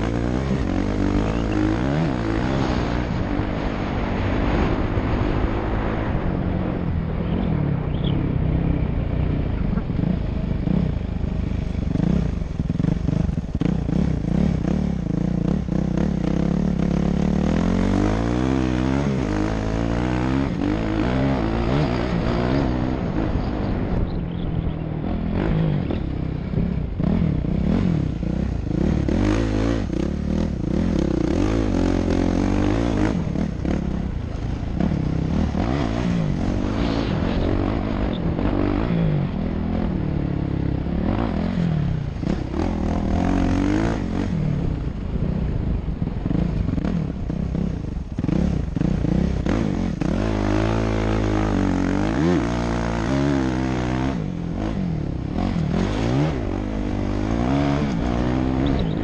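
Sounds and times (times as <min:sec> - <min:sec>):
motocross bike engine revving: 0:00.0 - 0:05.9, 0:10.0 - 0:59.0.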